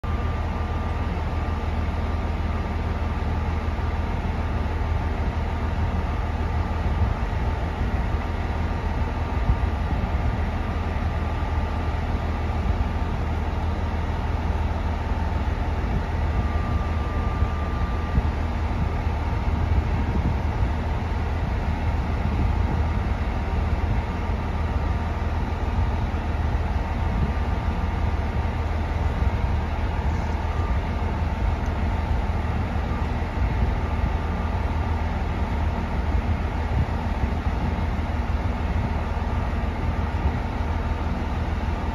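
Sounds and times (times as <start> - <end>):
diesel railcar engine idling: 0.0 - 41.9.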